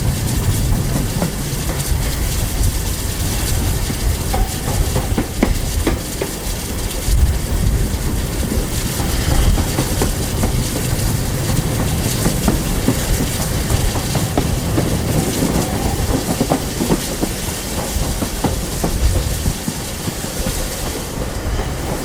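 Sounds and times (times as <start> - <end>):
train rumble and hiss: 0.0 - 22.0
wheels clicking over rail joints: 0.0 - 22.0.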